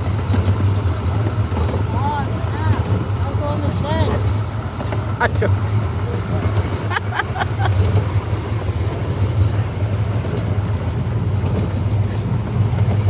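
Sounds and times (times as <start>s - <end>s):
miniature train drone: 0.0s - 13.0s
wheels rumbling on track: 0.0s - 13.0s.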